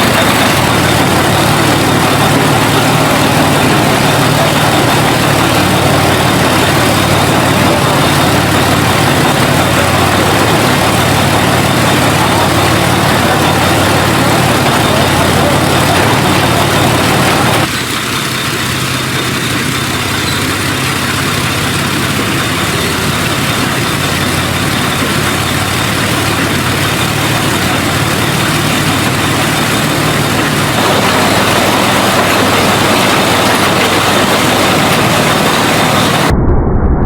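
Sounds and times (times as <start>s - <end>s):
engine idling: 0.0s - 36.3s.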